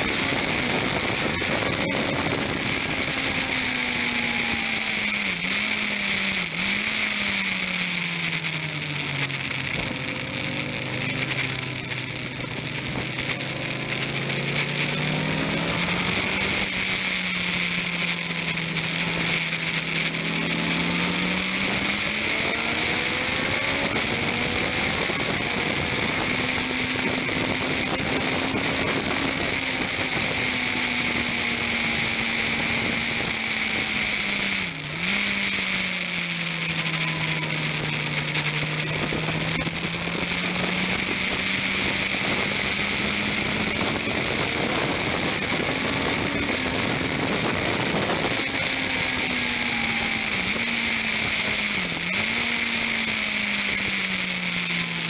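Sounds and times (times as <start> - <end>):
racing motorcycle engine: 0.0 - 55.0.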